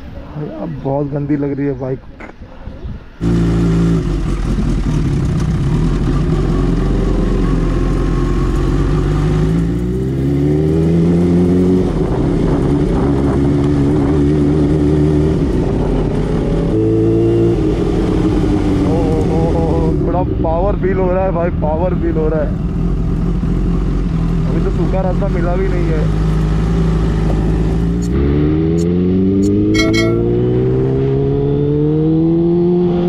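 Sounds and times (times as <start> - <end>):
motorcycle engine accelerating: 3.2 - 21.2, 22.3 - 33.0.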